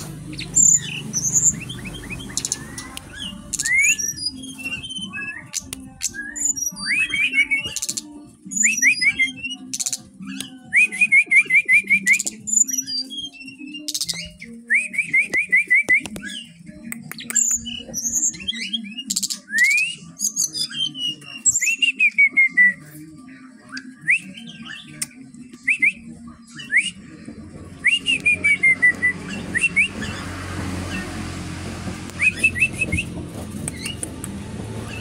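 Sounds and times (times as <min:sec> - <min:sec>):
bird singing whistled phrases: 0:00.3 - 0:16.6, 0:17.2 - 0:22.8, 0:23.7 - 0:27.0, 0:27.8 - 0:30.2, 0:32.1 - 0:33.1.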